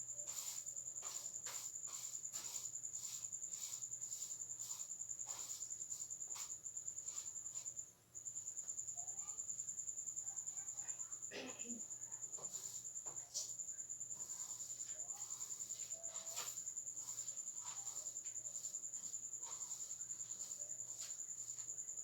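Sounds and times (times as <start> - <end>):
cricket trilling: 0.0 - 22.0.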